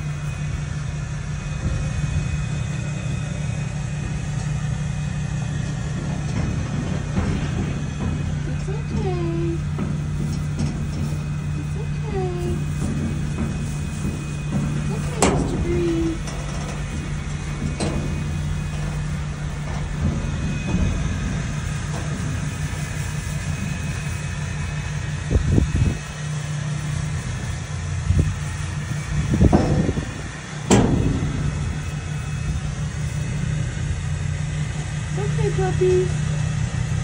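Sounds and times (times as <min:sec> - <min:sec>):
road noise: 0:00.0 - 0:37.0
vehicle engine drone: 0:00.0 - 0:37.0
knocks in trailer: 0:01.5 - 0:35.4.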